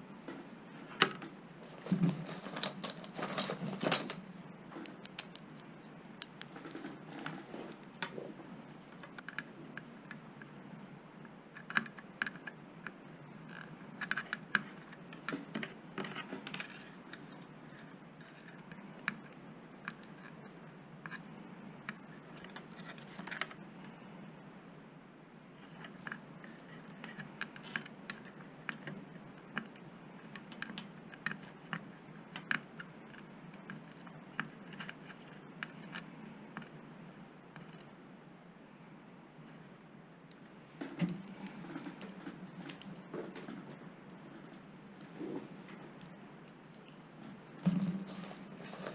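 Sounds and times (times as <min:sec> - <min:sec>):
faint low hum: 0:00.0 - 0:48.9.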